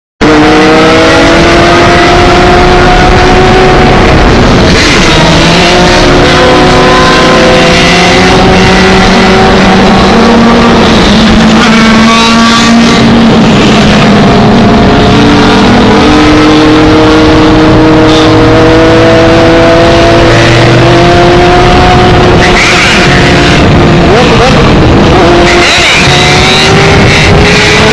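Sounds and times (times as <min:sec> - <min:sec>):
motorcycle engines revving: 0:00.2 - 0:27.9.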